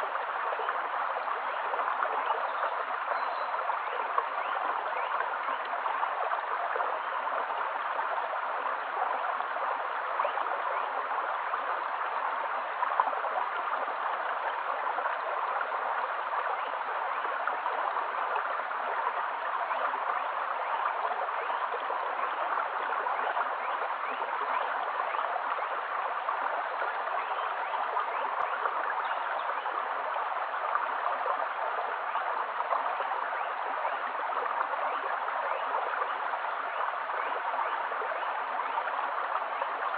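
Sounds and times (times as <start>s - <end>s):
stream babbling over pebbles: 0.0s - 39.9s.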